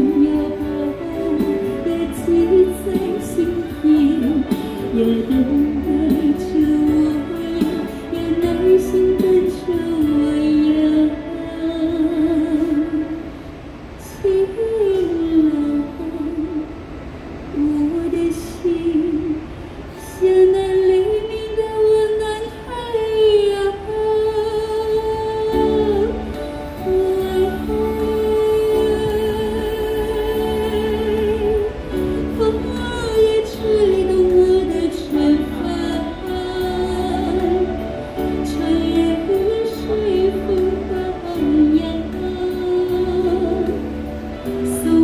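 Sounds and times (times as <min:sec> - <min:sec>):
recorded backing music: 0:00.0 - 0:45.0
woman singing a slow ballad: 0:00.0 - 0:45.0.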